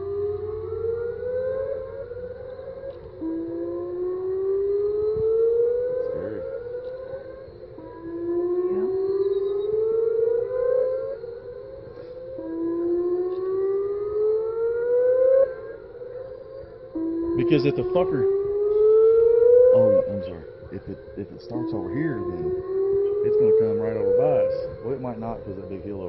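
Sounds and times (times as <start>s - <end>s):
warning siren rising tone: 0.0s - 26.0s.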